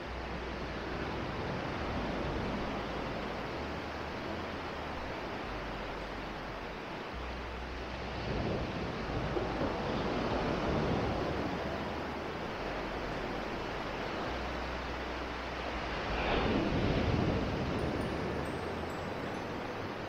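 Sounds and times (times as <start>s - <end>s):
waves washing onto sandy beach: 0.0s - 20.0s.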